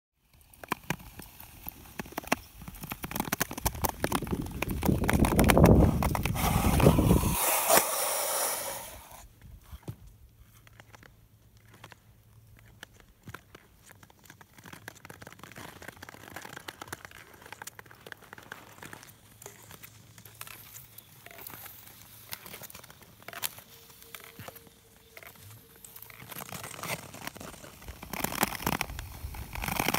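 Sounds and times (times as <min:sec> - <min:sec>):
ice clicks and crackles: 0:00.2 - 0:09.0, 0:10.5 - 0:29.9
skate blades gliding on ice: 0:00.4 - 0:09.9, 0:11.7 - 0:29.9.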